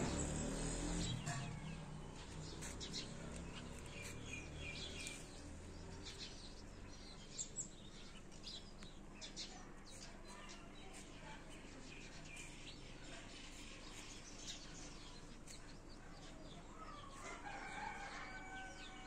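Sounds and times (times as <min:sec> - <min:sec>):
faint outdoor background: 0:00.0 - 0:19.0
small birds chirping: 0:00.0 - 0:19.0.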